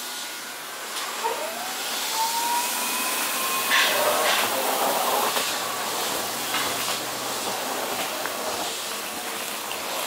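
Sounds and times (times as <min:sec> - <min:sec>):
train wheels hissing on rails: 0:00.0 - 0:09.0.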